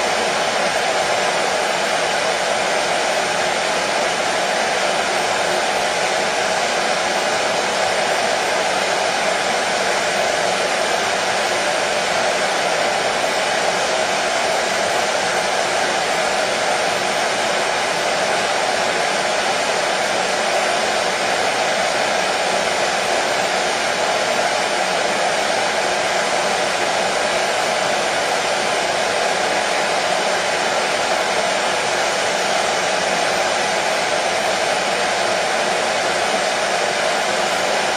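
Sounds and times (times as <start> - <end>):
hair dryer running: 0.0 - 37.9.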